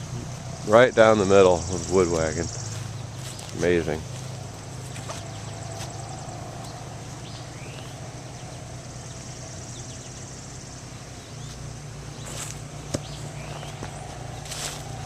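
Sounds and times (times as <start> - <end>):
bird chirps: 0.0 - 15.0
insect trill: 0.0 - 15.0.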